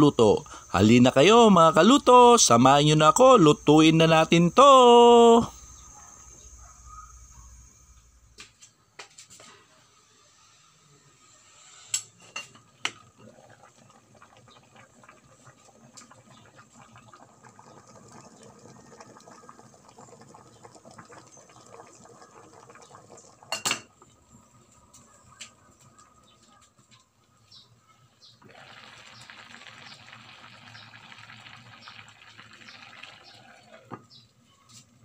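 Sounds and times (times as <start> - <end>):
rice boiling and bubbling: 0.0 - 35.0.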